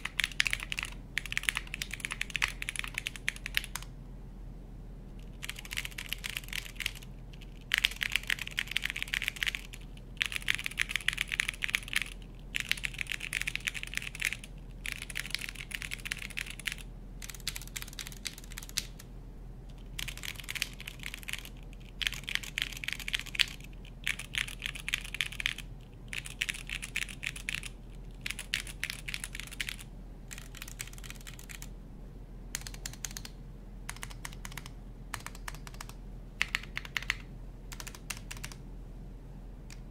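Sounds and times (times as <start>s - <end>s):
mechanical keyboard typing: 0.0s - 3.9s, 5.2s - 19.0s, 19.7s - 31.7s, 32.5s - 38.6s.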